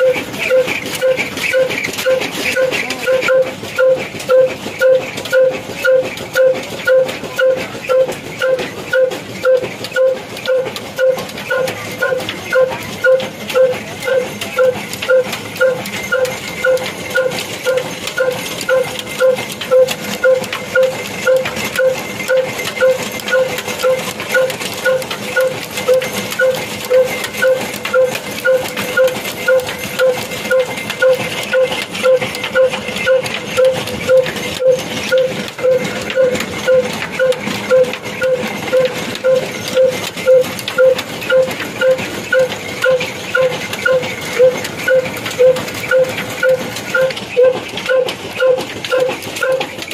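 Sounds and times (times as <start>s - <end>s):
belt and machinery rattle: 0.0s - 49.9s.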